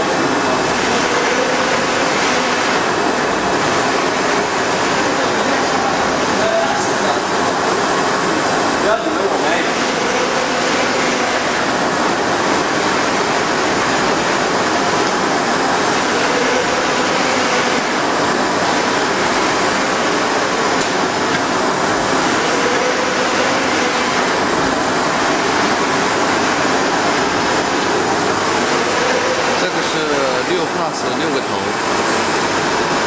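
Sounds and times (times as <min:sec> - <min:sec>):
printer machine rushing noise: 0:00.0 - 0:33.0.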